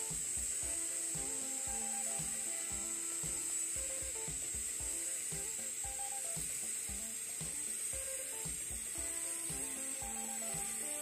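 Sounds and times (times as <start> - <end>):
background music: 0.0 - 11.0
welding arc hiss: 0.0 - 11.0.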